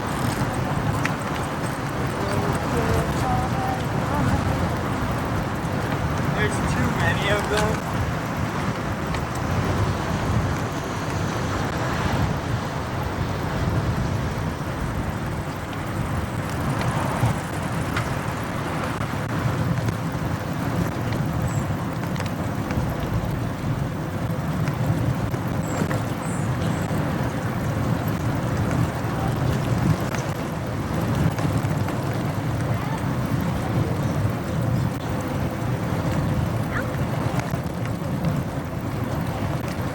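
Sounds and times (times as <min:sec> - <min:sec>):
motorcycle engine: 0:00.0 - 0:39.9
road and traffic noise: 0:00.0 - 0:39.9.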